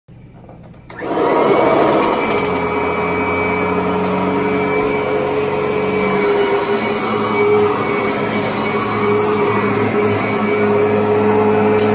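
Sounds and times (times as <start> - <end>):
vacuum cleaner running on carpet: 0.9 - 11.9
vacuum cleaner whine: 0.9 - 11.9.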